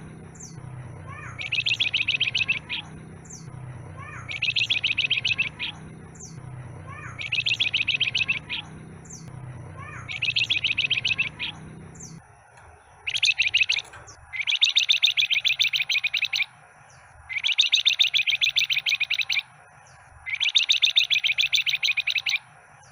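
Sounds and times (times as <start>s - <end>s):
low hum: 0.0s - 22.9s
songbird buzzy trills: 0.0s - 22.9s.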